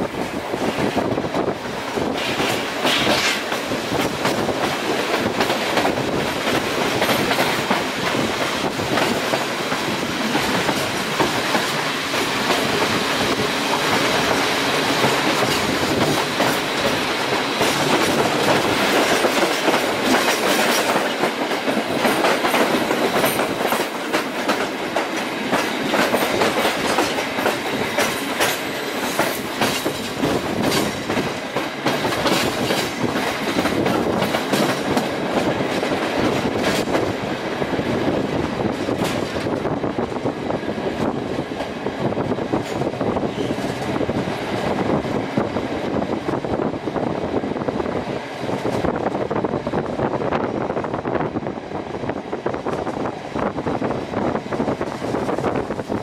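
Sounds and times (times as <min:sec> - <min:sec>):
passing train: 0:00.0 - 0:56.0
train wheels clicking over rail joints: 0:00.1 - 0:46.6.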